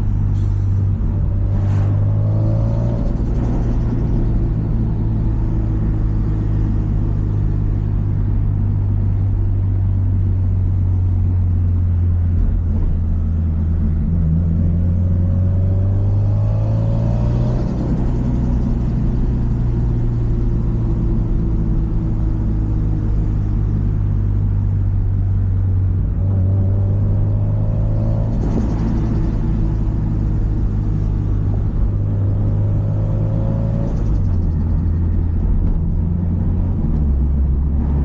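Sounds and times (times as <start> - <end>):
car engine rumbling: 0.0 - 38.0.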